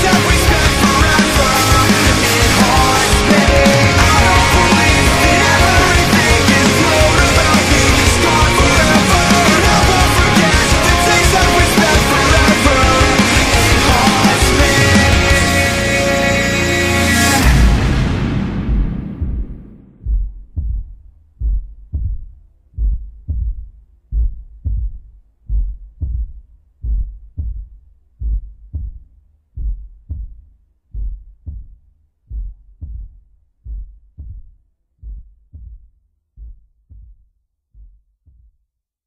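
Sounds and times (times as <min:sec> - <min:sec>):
heartbeat thumps: 0:00.0 - 0:15.5, 0:17.5 - 0:38.6.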